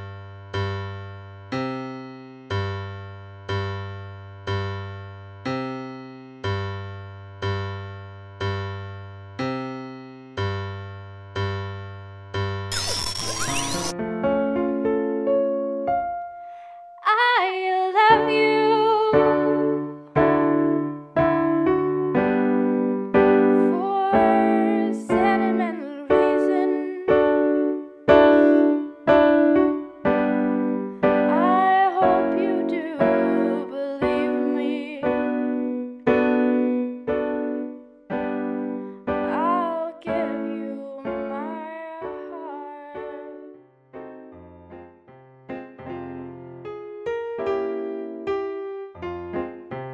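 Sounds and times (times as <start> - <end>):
piano chords: 0.0 - 49.9.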